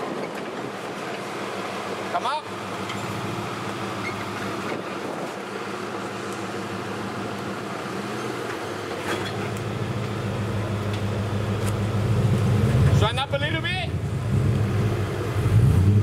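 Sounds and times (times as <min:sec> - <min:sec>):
car engine at low revs: 0:01.6 - 0:16.0.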